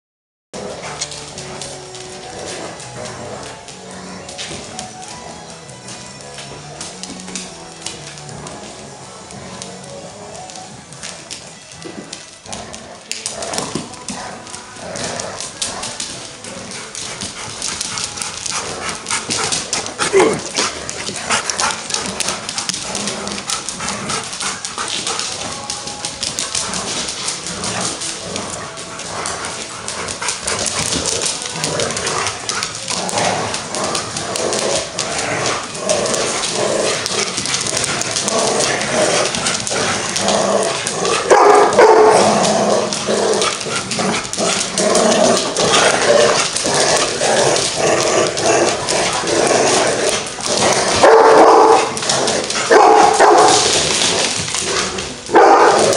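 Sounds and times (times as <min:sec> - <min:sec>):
dogs barking and yipping: 0:00.7 - 0:12.1, 0:15.4 - 0:55.9.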